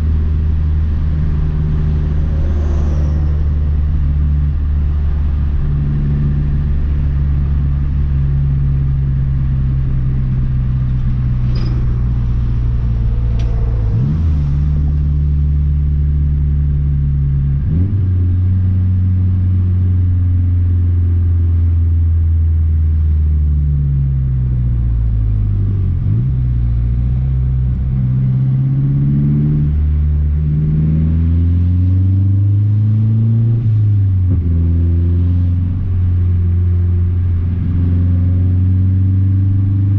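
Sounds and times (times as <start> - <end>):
car engine revving: 0.0 - 19.3, 25.6 - 39.9.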